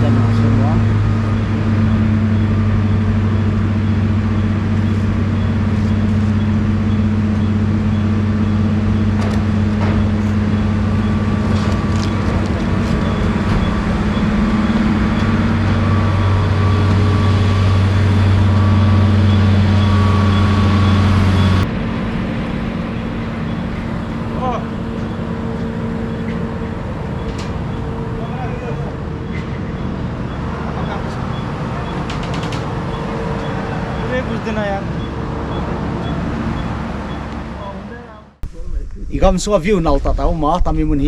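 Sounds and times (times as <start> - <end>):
vehicle engine drone: 0.0 - 41.0.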